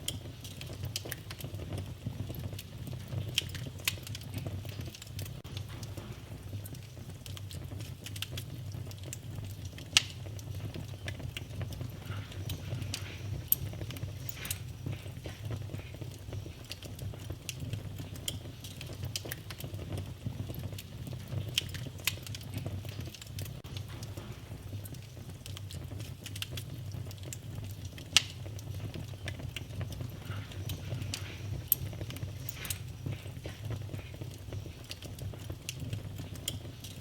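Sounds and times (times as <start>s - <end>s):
low steady rumble: 0.0s - 37.0s
wood fire crackling: 0.0s - 37.0s.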